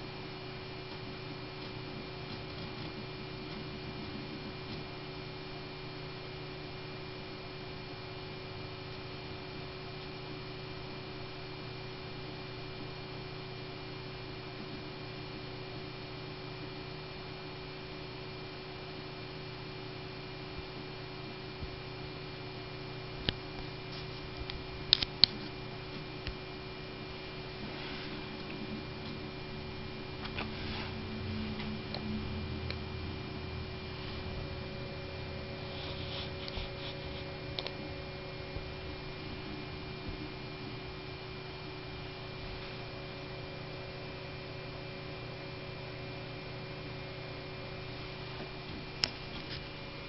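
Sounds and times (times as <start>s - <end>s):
desktop computer hum: 0.0s - 50.0s
steady whining tones: 0.0s - 50.0s.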